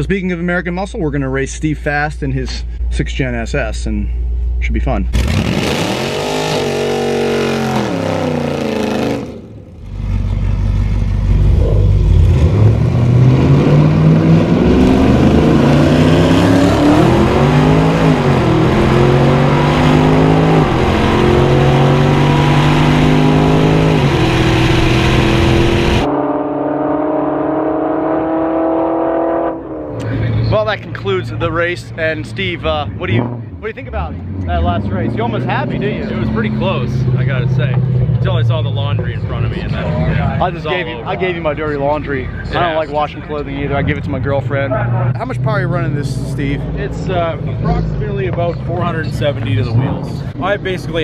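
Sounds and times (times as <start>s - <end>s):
car engines racing full throttle: 5.1s - 51.0s.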